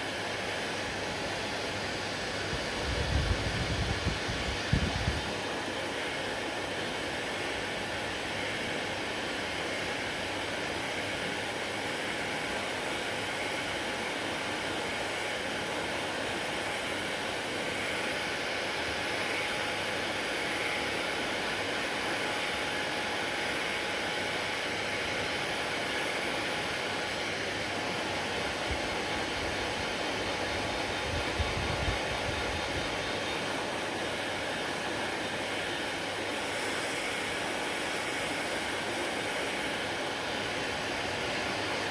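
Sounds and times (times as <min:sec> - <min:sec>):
hair dryer running: 0:00.0 - 0:41.9.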